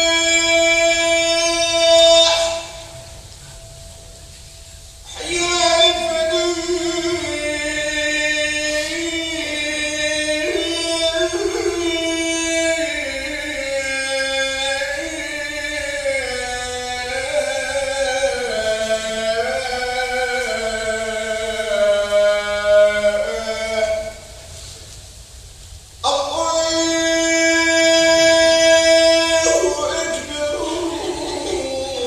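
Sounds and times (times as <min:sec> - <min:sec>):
man chanting call to prayer: 0:00.0 - 0:03.9, 0:05.1 - 0:24.8, 0:26.0 - 0:32.0.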